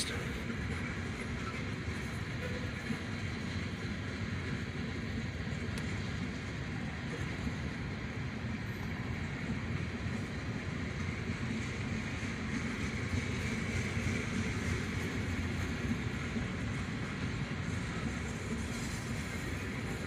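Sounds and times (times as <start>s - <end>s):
steel wheels on rail: 0.0s - 20.0s.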